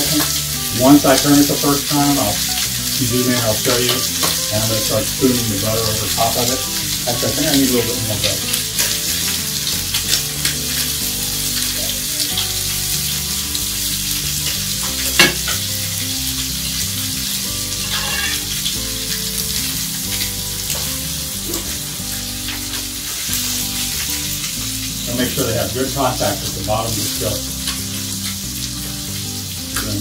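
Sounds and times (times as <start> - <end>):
meat sizzling in a skillet: 0.0 - 30.0.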